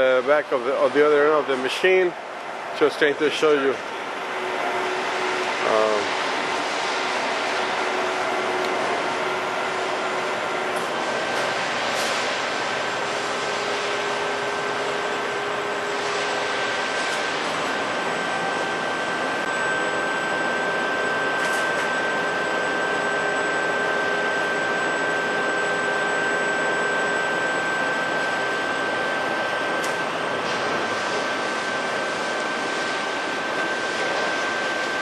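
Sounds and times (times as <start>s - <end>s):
high-pitched whine: 2.8s - 35.0s.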